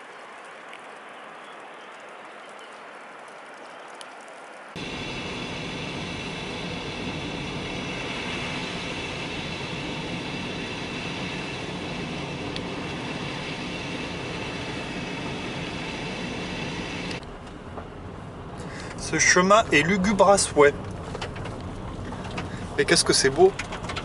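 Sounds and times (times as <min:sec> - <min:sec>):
car engine and road noise: 0:04.6 - 0:24.0.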